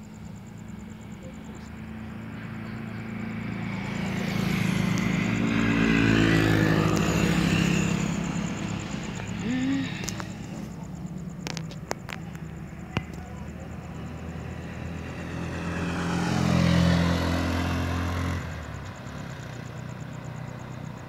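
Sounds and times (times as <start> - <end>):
vehicle passing on highway: 0.0 - 21.0.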